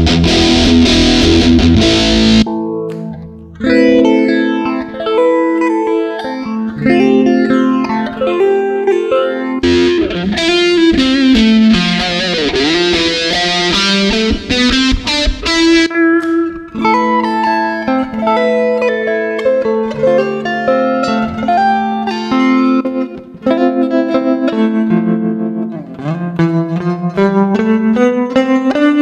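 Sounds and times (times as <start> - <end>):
effected bass guitar notes: 0.0 - 29.0.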